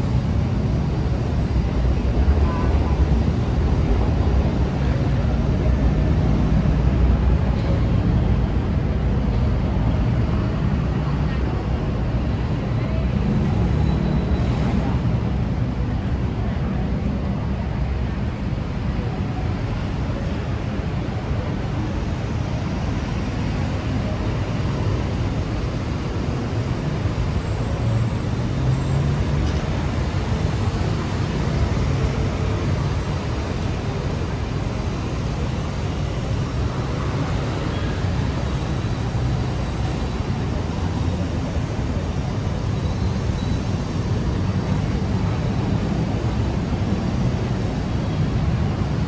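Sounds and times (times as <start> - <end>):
city traffic rumble: 0.0 - 49.0.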